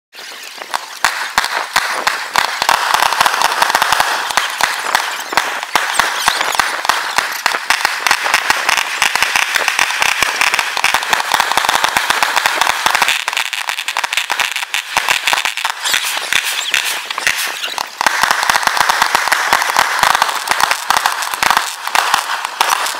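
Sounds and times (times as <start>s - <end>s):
fireworks crackling: 0.1s - 22.9s
deep firework bangs: 0.2s - 22.9s.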